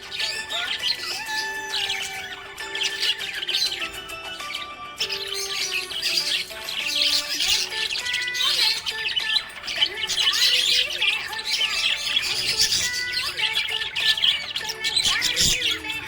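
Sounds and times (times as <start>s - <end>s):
background music of held notes: 0.0s - 16.0s
budgerigars chirping: 0.0s - 16.0s.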